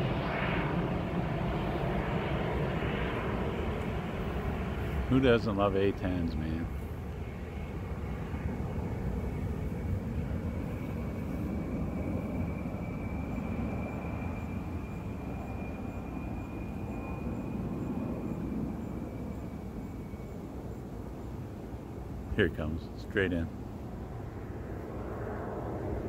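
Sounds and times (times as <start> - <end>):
jet flying past: 0.0 - 26.0.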